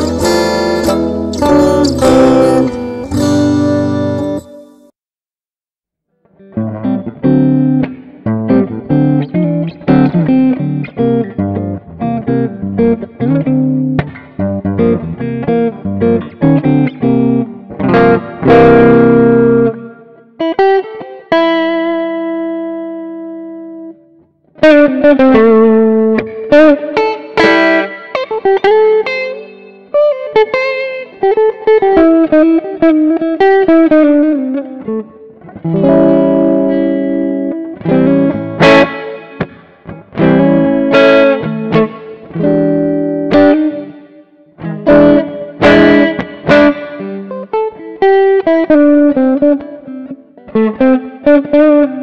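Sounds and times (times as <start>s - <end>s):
electric guitar playing: 0.0s - 4.9s, 6.2s - 52.0s.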